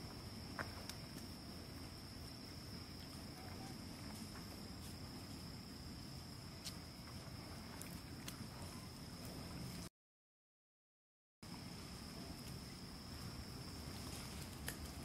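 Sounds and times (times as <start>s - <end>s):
insects trilling: 0.0s - 9.9s, 11.4s - 15.0s.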